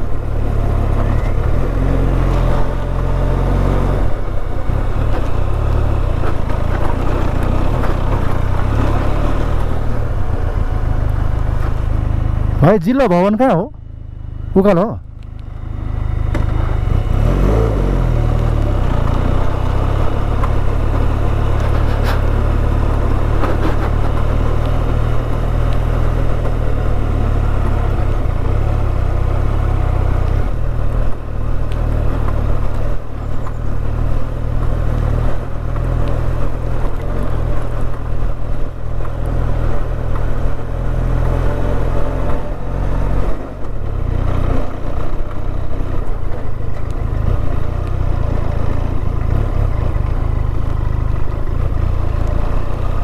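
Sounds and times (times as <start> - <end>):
motorcycle engine droning: 0.0 - 53.0.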